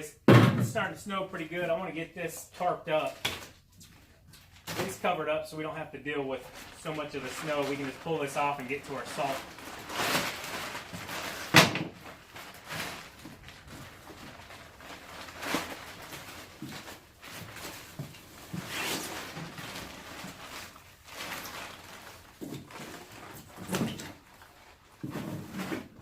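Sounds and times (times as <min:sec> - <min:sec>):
plastic tarp rustling and crinkling: 0:00.8 - 0:26.0.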